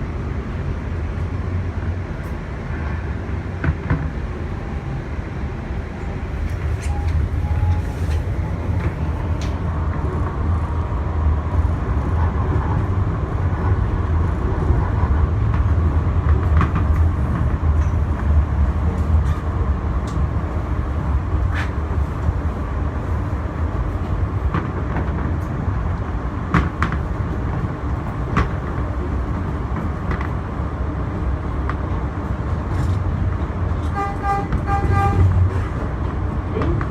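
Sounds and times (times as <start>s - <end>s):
subway wheels rumbling on rail: 0.0s - 36.9s.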